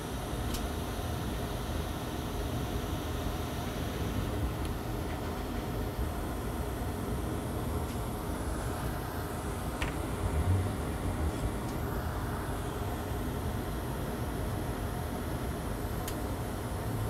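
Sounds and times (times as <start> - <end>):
rushing fan noise: 0.0 - 17.0.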